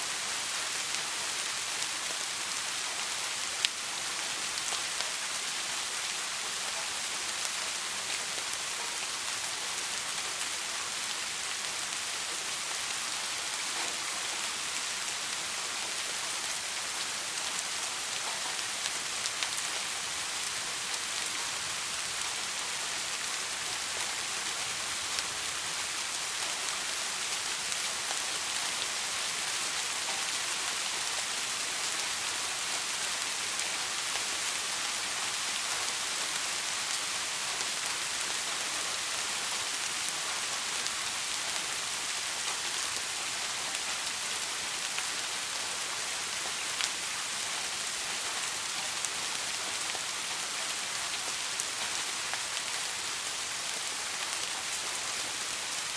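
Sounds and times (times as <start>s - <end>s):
soft rain hissing: 0.0s - 55.9s.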